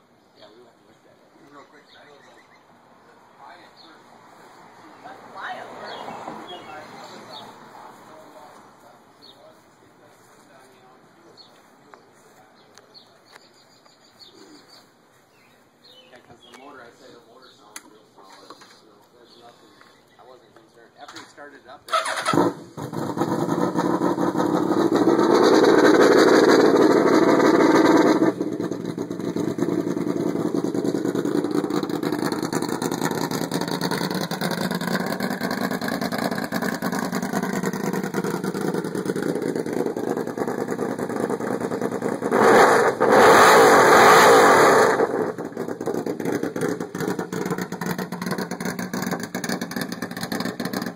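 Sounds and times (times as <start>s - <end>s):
motorcycle engine idling and revving: 0.0s - 15.8s, 21.9s - 50.9s.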